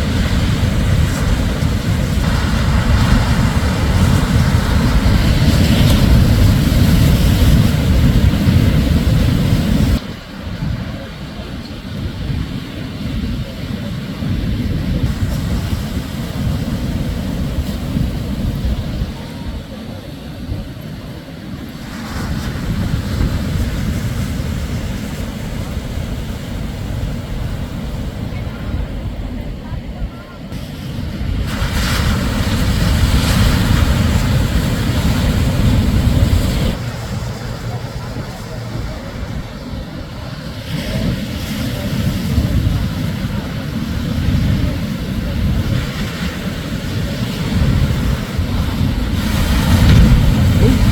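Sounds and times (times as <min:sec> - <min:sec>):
surf rumbling: 0:00.0 - 0:50.9
wave crashing on beach: 0:00.0 - 0:50.9
wind buffeting microphone: 0:00.0 - 0:50.9.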